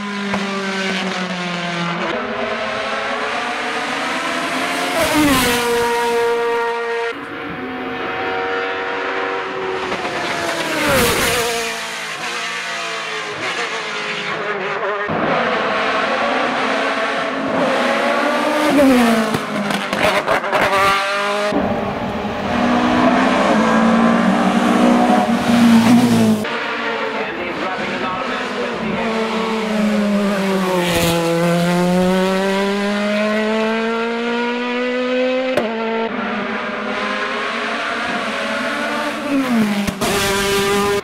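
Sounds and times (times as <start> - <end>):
racing car engines passing: 0.0 - 41.0.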